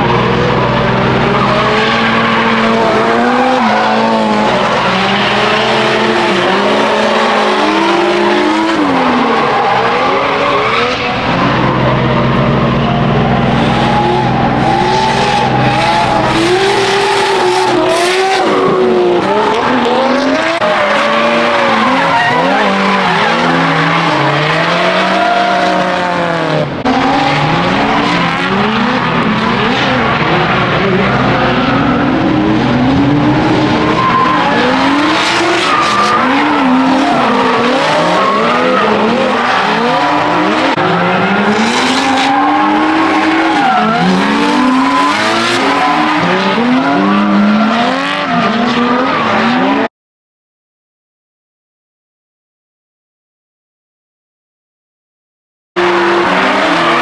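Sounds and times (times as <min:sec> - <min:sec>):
car engines revving hard: 0:00.0 - 0:49.9, 0:55.8 - 0:57.0.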